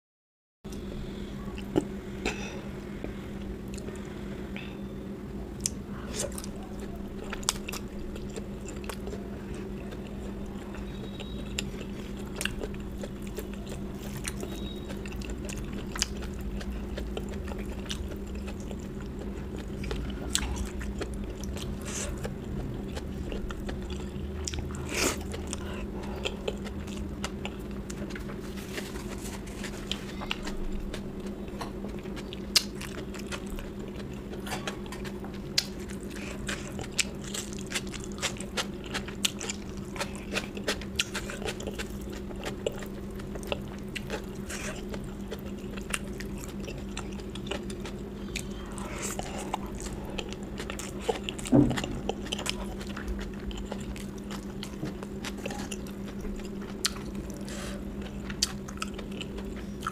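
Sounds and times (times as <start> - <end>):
steady low hum: 0.7 - 59.9
person chewing food: 1.5 - 4.6, 5.6 - 59.9.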